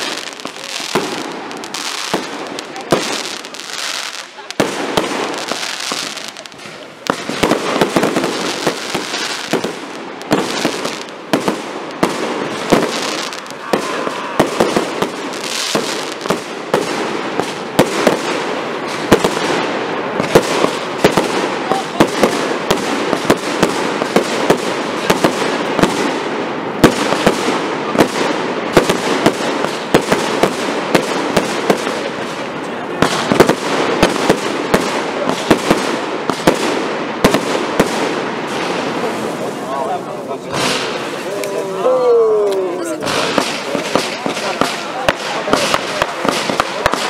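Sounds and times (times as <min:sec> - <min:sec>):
sharp firework bangs: 0:00.0 - 0:39.6, 0:40.5 - 0:41.3, 0:43.0 - 0:47.0
fireworks bursting and crackling: 0:00.0 - 0:47.0.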